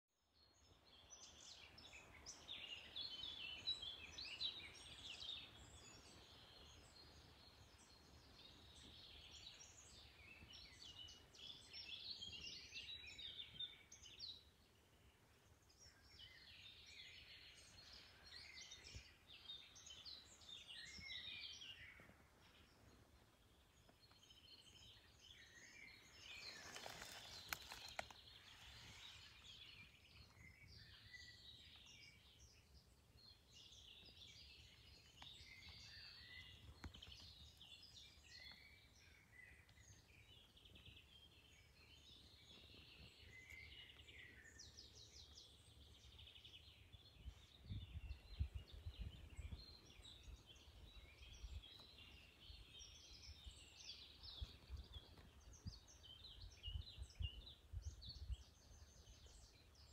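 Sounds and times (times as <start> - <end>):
songbirds chirping and singing: 0.4 - 59.9.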